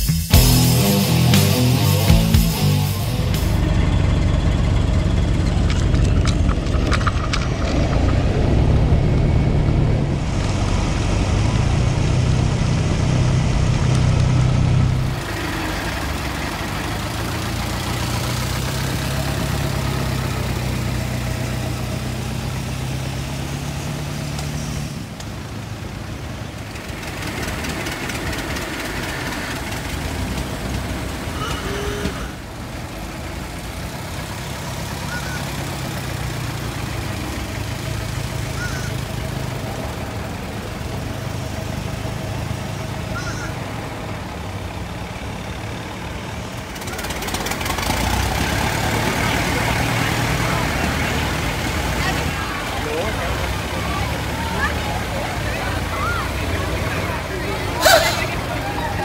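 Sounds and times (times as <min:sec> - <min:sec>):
old car engines rumbling: 0:00.0 - 0:59.0.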